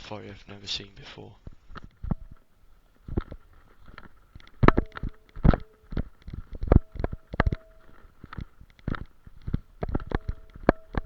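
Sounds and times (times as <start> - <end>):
knocks and thumps: 1.5 - 11.0.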